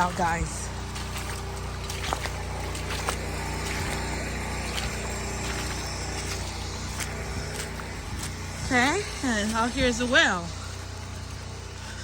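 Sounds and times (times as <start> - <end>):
generator engine humming: 0.0 - 12.0.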